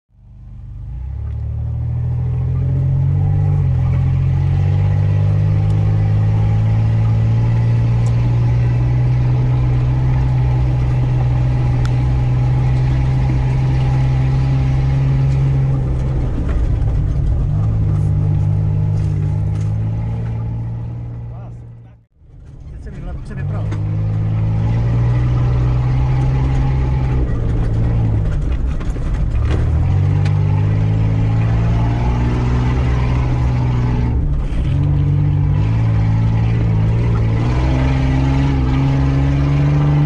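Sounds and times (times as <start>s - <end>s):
car engine running inside cab: 0.1s - 40.0s.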